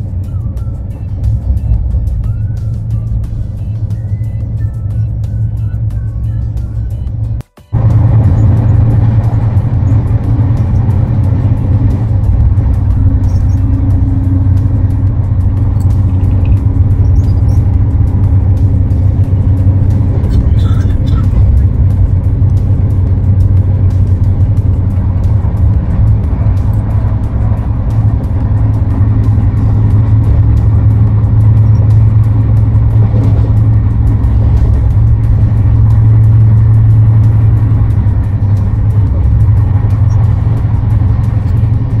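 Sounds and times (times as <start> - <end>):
train rumbling inside coach: 0.0 - 42.0.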